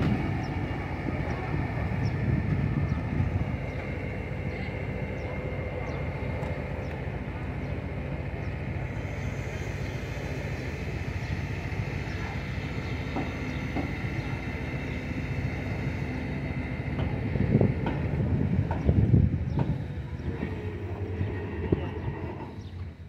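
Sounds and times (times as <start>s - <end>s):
crane engine rumbling: 0.0s - 23.0s.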